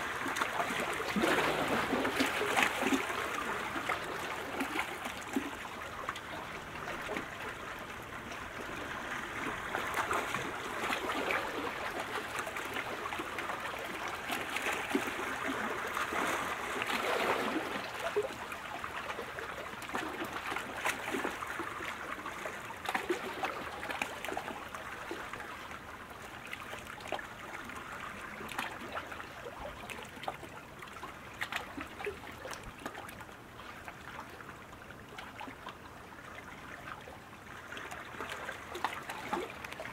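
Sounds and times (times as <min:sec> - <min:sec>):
kayak paddles splashing water: 0:00.0 - 0:39.9.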